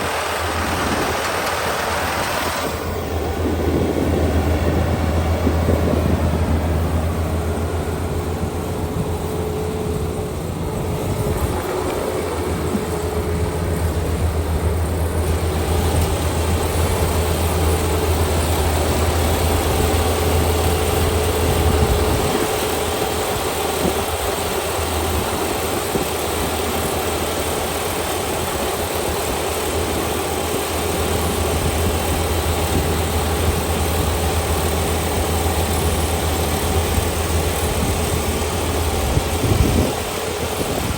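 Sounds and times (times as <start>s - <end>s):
diesel engine humming: 0.0s - 40.9s
machine rushing noise: 0.0s - 40.9s.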